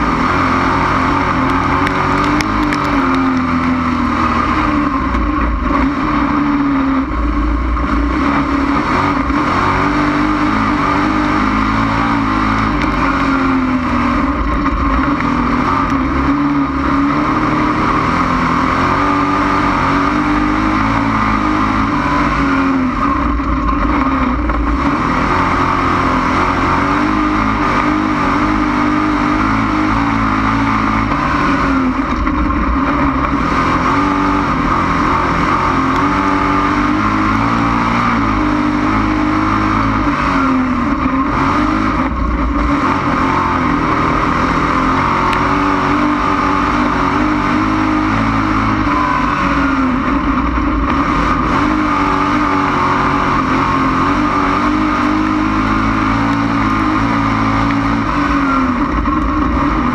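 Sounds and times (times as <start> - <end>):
race car engine at racing throttle: 0.0 - 59.9.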